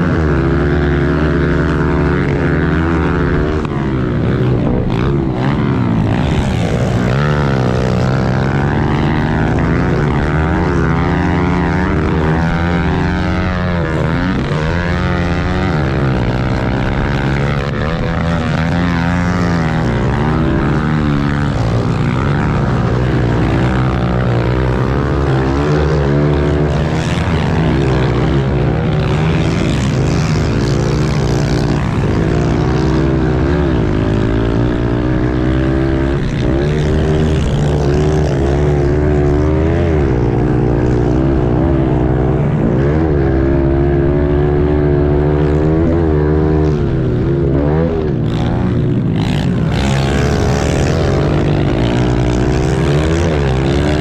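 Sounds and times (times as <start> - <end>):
motorbike engines revving: 0.0 - 54.0.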